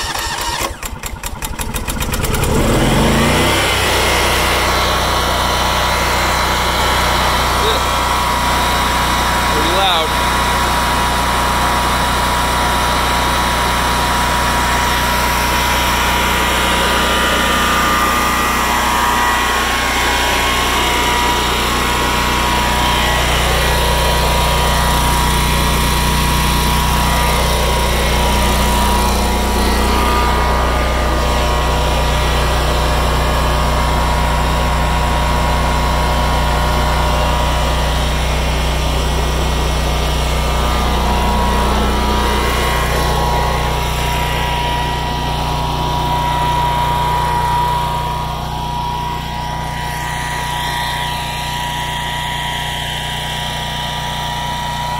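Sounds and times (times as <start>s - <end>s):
generator engine running: 0.0s - 54.9s.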